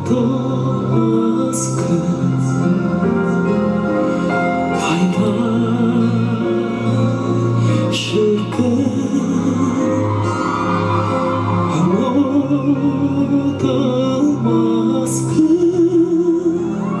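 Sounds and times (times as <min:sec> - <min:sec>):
man singing pop ballad: 0:00.0 - 0:17.0.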